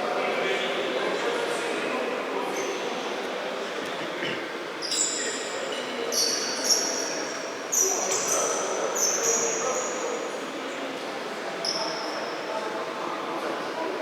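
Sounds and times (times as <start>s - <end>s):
murmur of voices: 0.0s - 14.0s.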